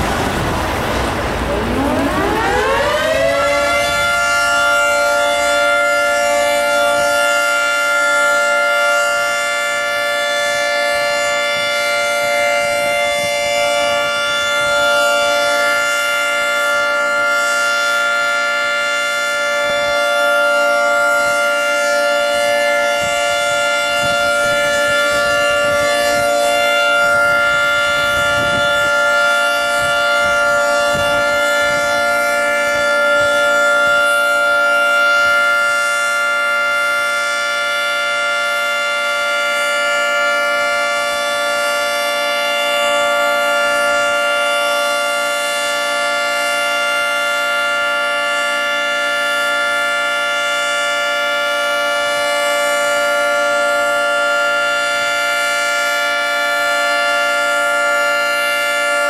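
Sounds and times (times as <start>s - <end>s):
rotating siren chord: 0.0s - 59.0s.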